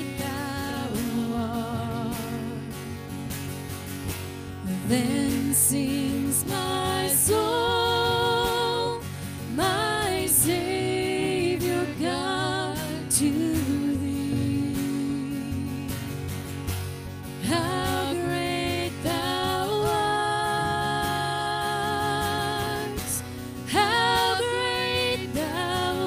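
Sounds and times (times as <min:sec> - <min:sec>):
woman singing with vibrato: 0:00.0 - 0:02.8, 0:04.7 - 0:16.2, 0:17.4 - 0:26.0
acoustic and electric guitar: 0:00.0 - 0:26.0.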